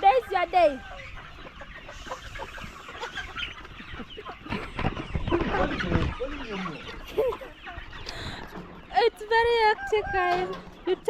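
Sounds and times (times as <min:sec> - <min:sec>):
chickens clucking and chirping: 0:00.0 - 0:11.0.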